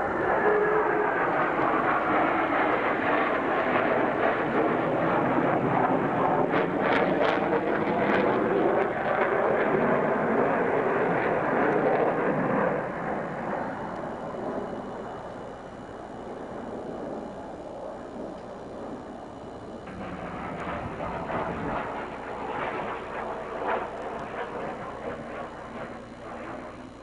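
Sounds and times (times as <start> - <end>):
fighter jet engines roaring: 0.0 - 27.0.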